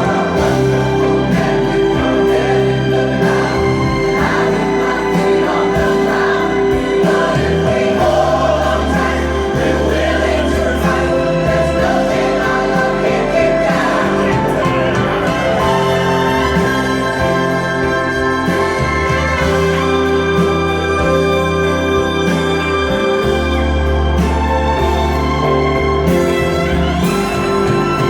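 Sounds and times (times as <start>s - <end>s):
bass line: 0.0s - 28.0s
choir of backing vocals: 0.0s - 28.0s
soul-jazz song over speakers: 0.0s - 28.0s.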